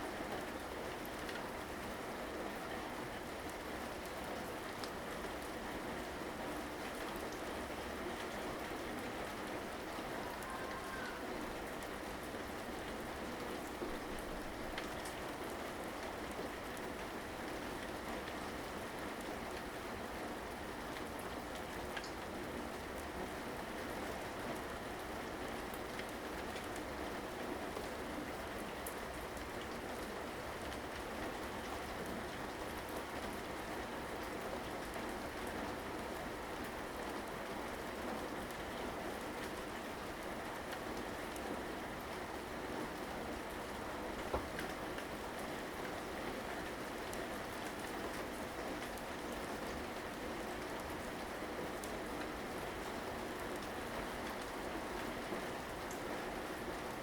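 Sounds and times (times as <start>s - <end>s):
steady rain hiss: 0.0s - 57.0s
raindrops ticking on a surface: 0.1s - 57.0s.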